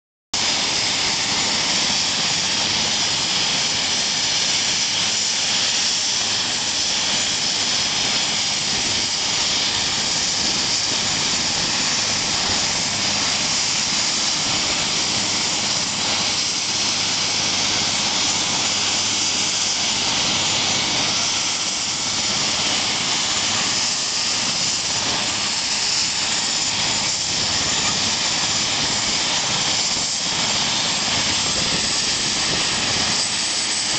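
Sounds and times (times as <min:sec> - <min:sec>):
helicopter hovering: 0:00.4 - 0:33.9.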